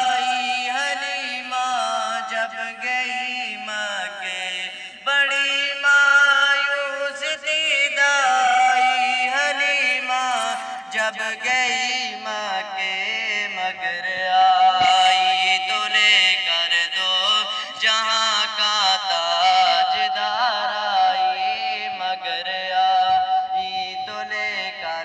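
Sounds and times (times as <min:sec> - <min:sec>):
boy singing into a microphone: 0:00.0 - 0:25.0.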